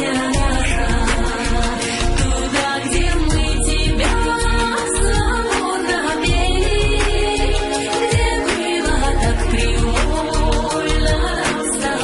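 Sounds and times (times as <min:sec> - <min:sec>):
instrumental music with bass beat: 0:00.0 - 0:12.0.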